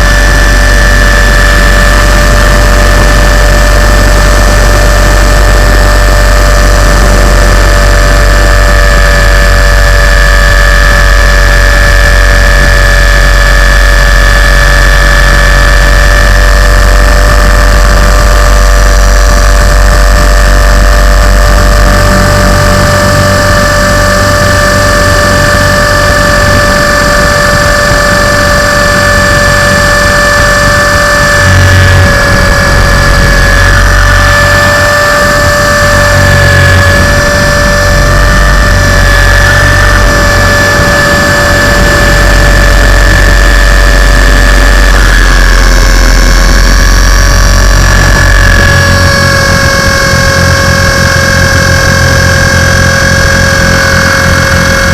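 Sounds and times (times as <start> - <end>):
helicopter motor whine: 0.0 - 54.9
rotor wash rushing: 0.0 - 54.9.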